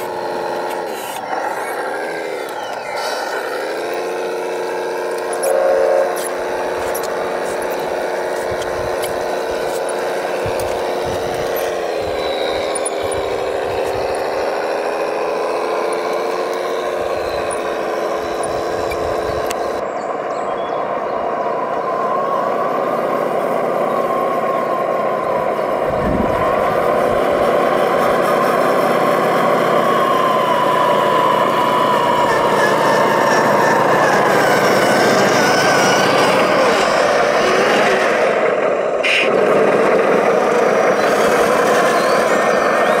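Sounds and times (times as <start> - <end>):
electric motor whine: 0.0 - 43.0.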